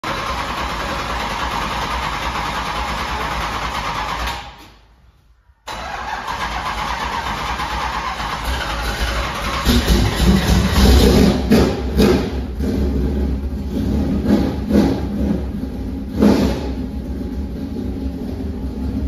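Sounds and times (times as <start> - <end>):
race car engine running: 0.0 - 4.5, 6.4 - 19.0.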